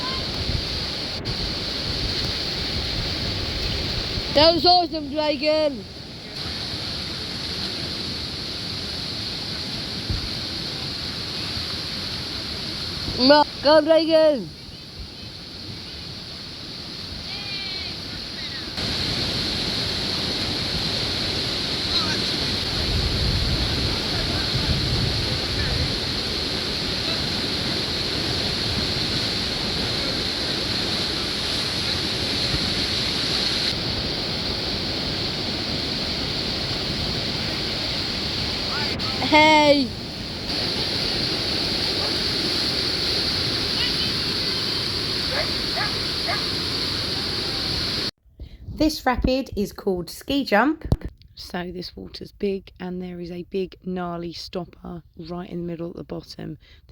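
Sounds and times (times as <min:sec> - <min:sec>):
whitewater rapids rushing: 0:00.0 - 0:48.1.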